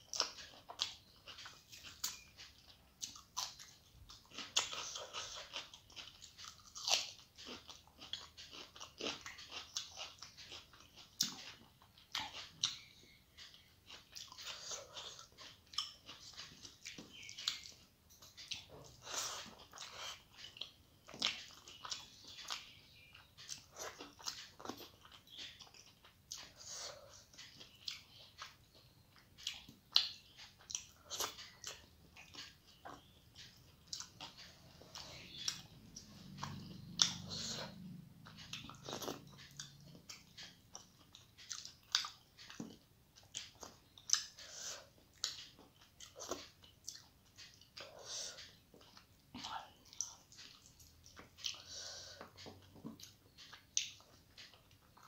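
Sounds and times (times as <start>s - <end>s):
person chewing wetly: 0.0s - 55.0s
lip smacks and mouth clicks: 0.1s - 55.0s.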